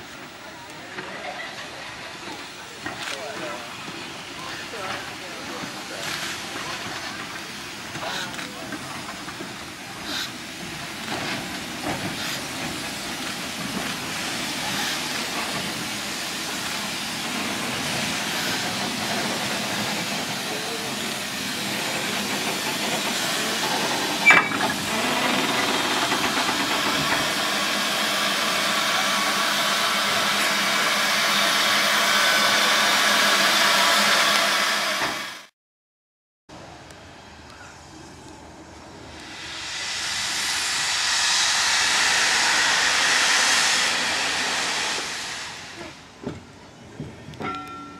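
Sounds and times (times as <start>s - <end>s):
steam locomotive hissing: 0.0s - 35.5s, 37.0s - 47.9s.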